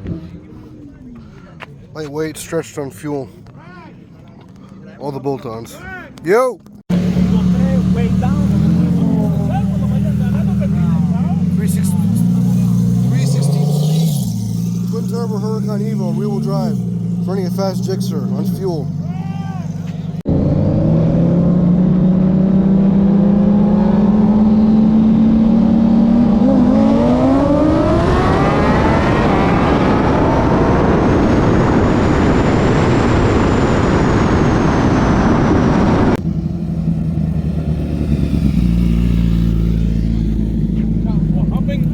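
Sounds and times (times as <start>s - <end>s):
car and motorcycle engines roaring: 0.0s - 41.9s
low steady engine drone: 6.9s - 41.9s.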